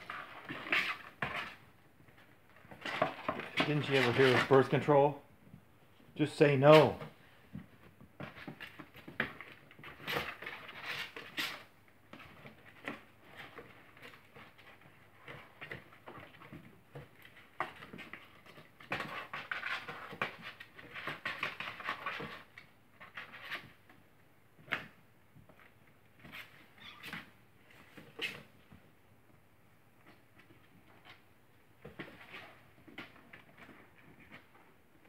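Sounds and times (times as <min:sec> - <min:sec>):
kittens scratching cardboard: 0:00.0 - 0:04.8, 0:06.6 - 0:28.8, 0:30.0 - 0:35.0.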